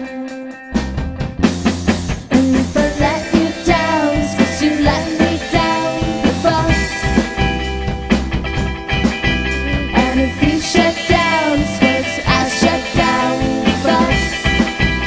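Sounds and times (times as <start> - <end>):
drums keeping steady beat: 0.0 - 15.0
live rock band playing: 0.0 - 15.0.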